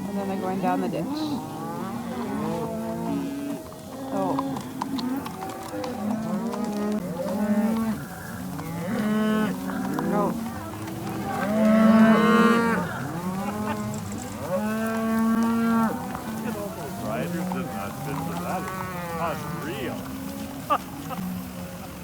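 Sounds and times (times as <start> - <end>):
cattle mooing: 0.0 - 22.0.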